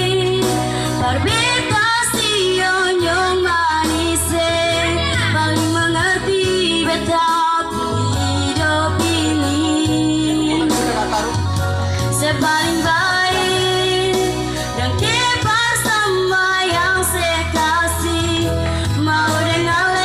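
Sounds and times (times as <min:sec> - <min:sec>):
woman singing in a high voice: 0:00.0 - 0:10.9, 0:12.2 - 0:20.0
electronic keyboard with bass line: 0:00.0 - 0:20.0.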